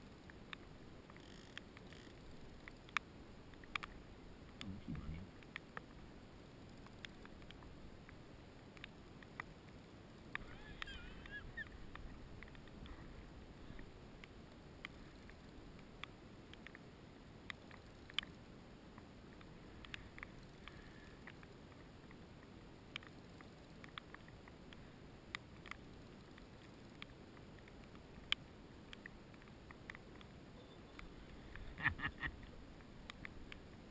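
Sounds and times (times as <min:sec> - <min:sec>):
faint low rumble: 0:00.0 - 0:33.9.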